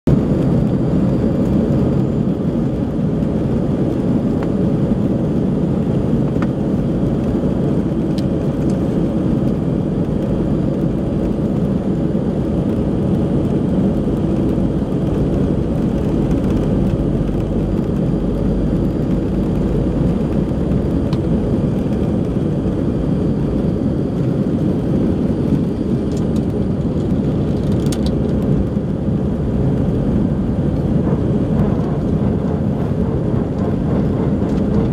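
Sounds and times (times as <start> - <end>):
jet engines roaring in cabin: 0.1 - 34.9.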